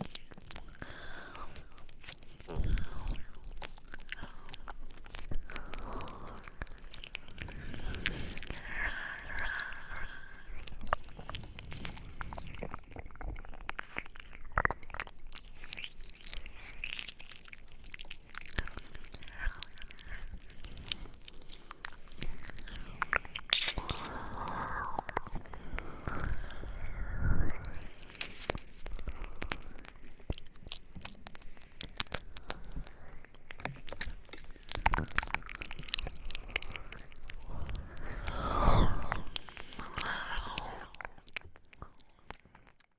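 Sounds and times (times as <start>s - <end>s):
wet mouth clicks and lip smacks: 0.0s - 42.9s.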